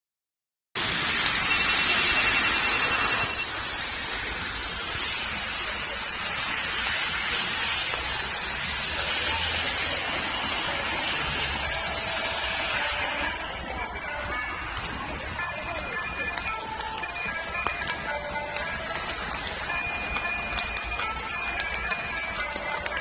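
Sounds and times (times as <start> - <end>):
city street traffic hiss: 0.8 - 23.0
pedestrian signal melodic tones: 1.1 - 23.0.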